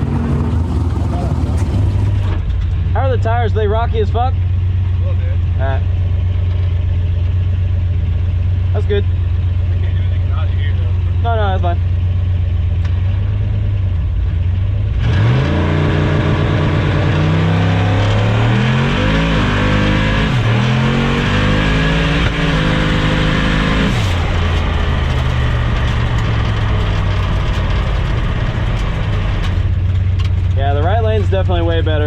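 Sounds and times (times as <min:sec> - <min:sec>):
engine accelerating hard: 0:00.0 - 0:32.0.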